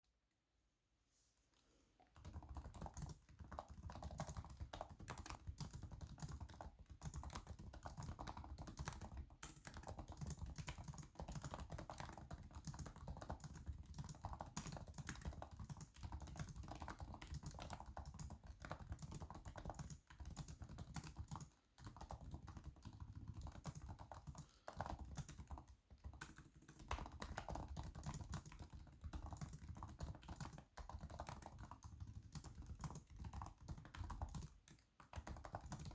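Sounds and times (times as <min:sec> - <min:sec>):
laptop keyboard typing: 0:02.2 - 0:35.9.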